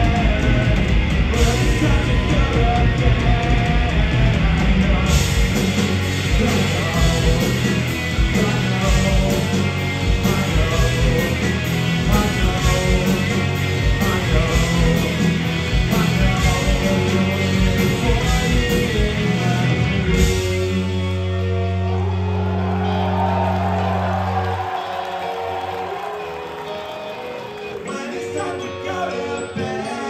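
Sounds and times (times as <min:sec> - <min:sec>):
bass guitar: 0:00.0 - 0:30.0
distorted electric guitars: 0:00.0 - 0:30.0
drums: 0:00.0 - 0:30.0.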